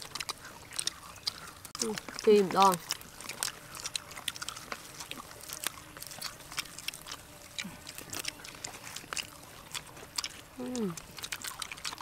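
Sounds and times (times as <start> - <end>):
fried chicken crunching: 0.0 - 12.0.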